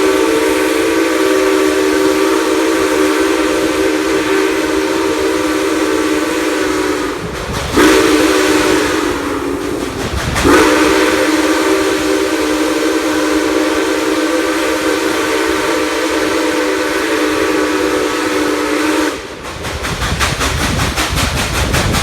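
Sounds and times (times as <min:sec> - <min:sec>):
steam locomotive chime whistle: 0:00.0 - 0:19.3.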